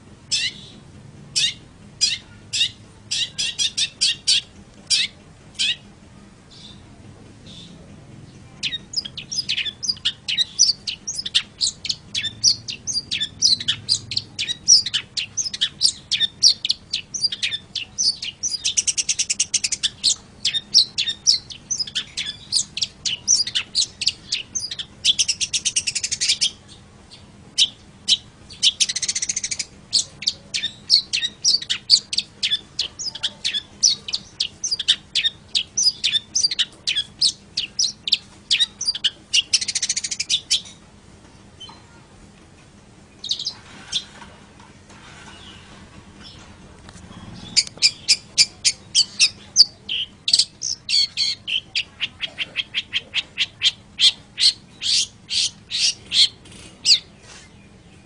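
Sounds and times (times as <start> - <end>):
bird singing fast chattering notes: 0.3 - 5.9, 8.6 - 40.8, 43.1 - 44.0, 47.1 - 58.0.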